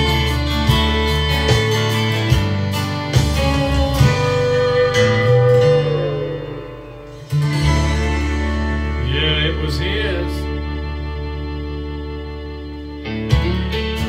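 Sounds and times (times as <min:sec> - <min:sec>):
acoustic guitar: 0:00.0 - 0:14.0
bass line: 0:00.0 - 0:14.0.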